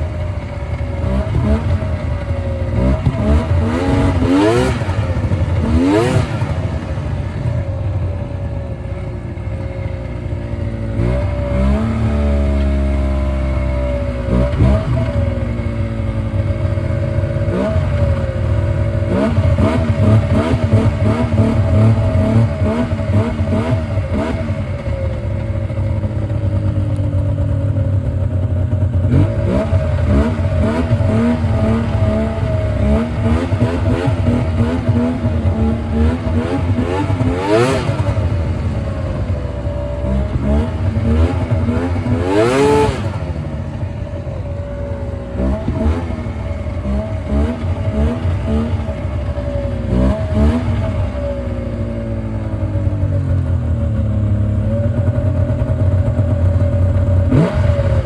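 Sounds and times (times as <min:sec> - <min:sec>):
snowmobile engine idling unevenly: 0:00.0 - 0:58.0.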